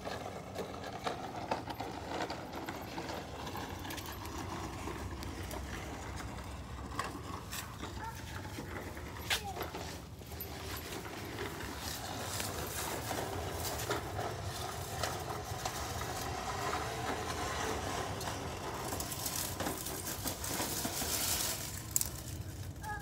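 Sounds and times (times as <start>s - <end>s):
push lawnmower rolling: 0.0s - 23.0s.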